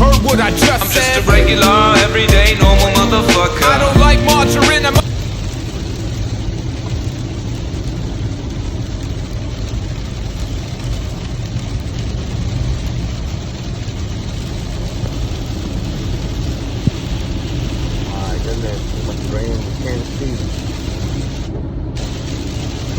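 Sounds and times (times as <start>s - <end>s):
heavy rain: 0.0s - 22.9s
low vehicle rumble: 0.0s - 22.9s.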